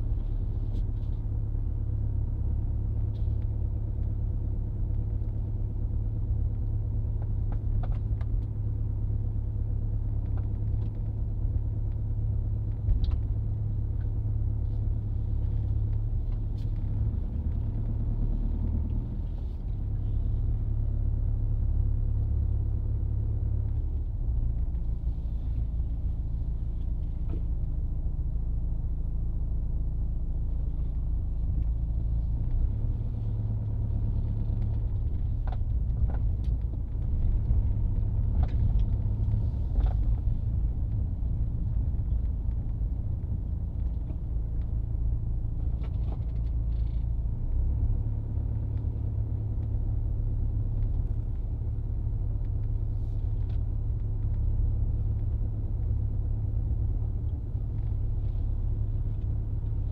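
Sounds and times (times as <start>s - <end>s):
car engine low rumble: 0.0s - 59.9s.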